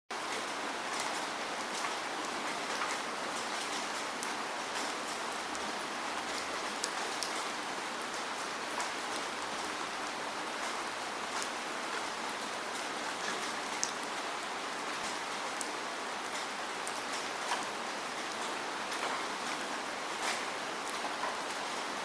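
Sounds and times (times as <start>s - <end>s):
steady falling rain: 0.1s - 22.0s
raindrop ticks: 0.3s - 21.8s.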